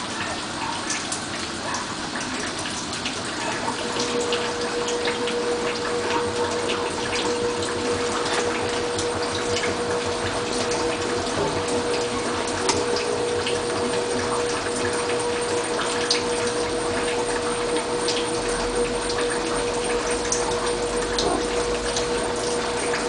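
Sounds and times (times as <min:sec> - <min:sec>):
water rushing in washing machine: 0:00.0 - 0:23.0
steady humming tone: 0:03.6 - 0:23.0.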